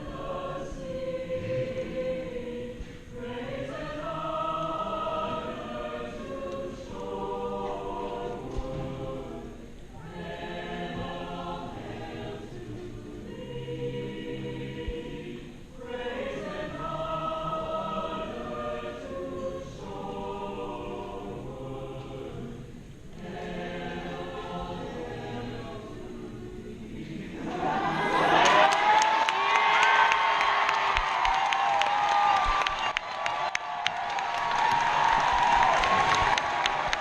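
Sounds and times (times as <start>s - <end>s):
choir singing slow chords: 0.0s - 32.3s.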